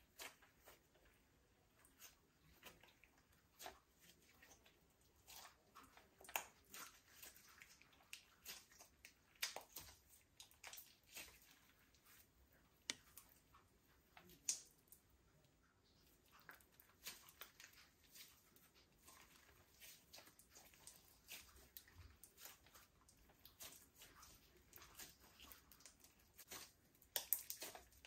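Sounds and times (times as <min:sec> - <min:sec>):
slime squelching and popping: 0:00.0 - 0:15.2, 0:15.8 - 0:28.0.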